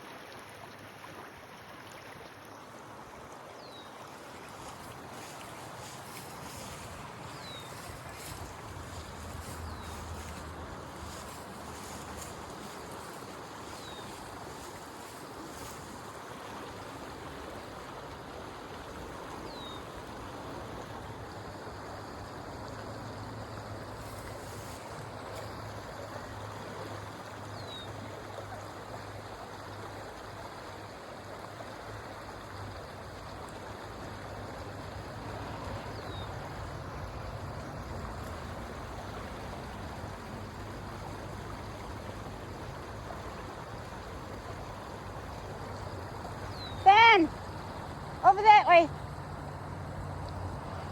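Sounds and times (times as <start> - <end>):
creek water rushing: 0.0 - 50.9.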